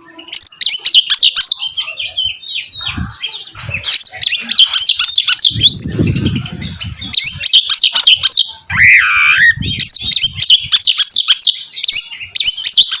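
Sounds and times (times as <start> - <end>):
bird singing whistled notes: 0.2 - 13.0.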